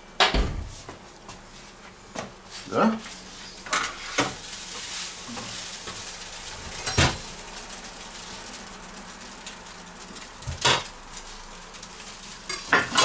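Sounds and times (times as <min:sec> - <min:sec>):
hot fat sizzling: 0:02.4 - 0:13.0.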